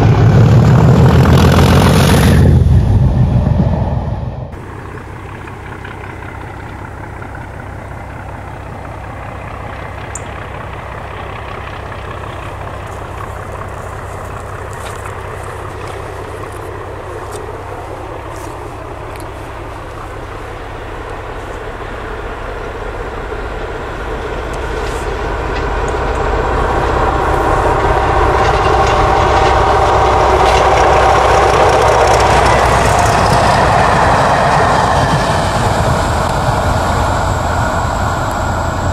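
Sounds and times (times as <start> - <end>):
diesel locomotive engine throbbing: 0.0 - 38.9.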